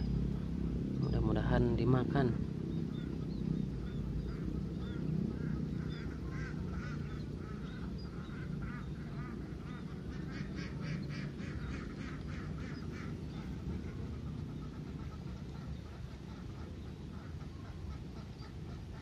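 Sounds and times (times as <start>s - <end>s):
low outdoor hum: 0.0s - 19.0s
ducks quacking: 1.5s - 19.0s.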